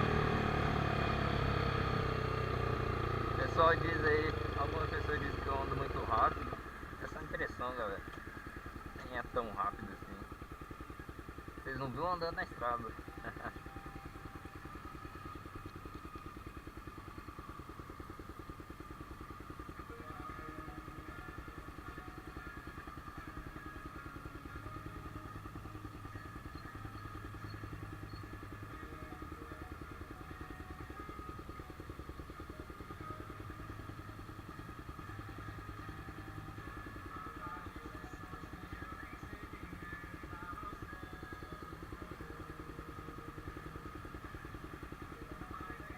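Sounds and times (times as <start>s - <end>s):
motorcycle engine chugging: 0.0s - 45.9s.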